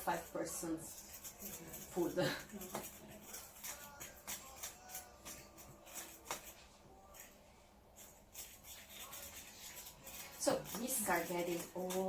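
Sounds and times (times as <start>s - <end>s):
fork beating eggs: 0.0s - 12.0s.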